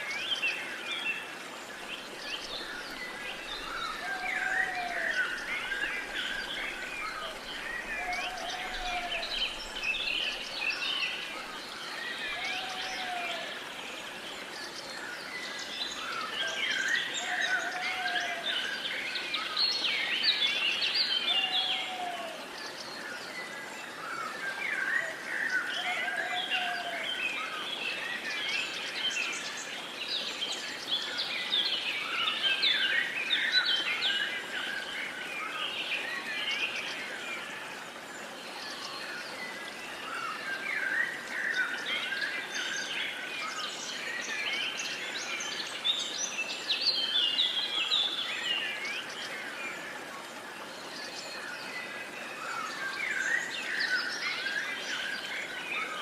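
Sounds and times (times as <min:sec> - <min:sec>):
soft steady hiss: 0:00.0 - 0:56.0
songbirds chirping and singing: 0:00.2 - 0:50.0.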